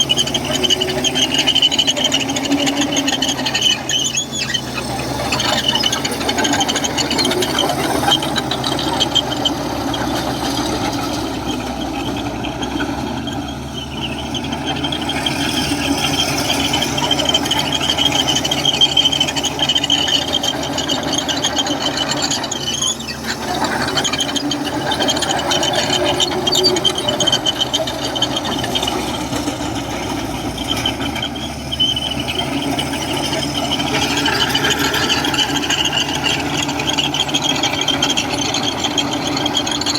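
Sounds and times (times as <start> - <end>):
bulldozer diesel engine: 0.0 - 39.9
continuous high squeal: 0.0 - 39.9.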